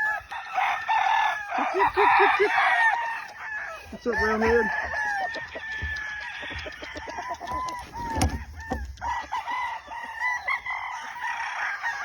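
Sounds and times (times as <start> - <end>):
roosters crowing: 0.0 - 12.0.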